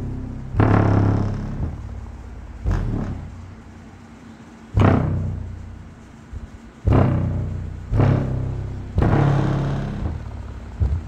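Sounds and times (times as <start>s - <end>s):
subwoofer bass hits: 0.0s - 3.9s, 4.7s - 11.0s.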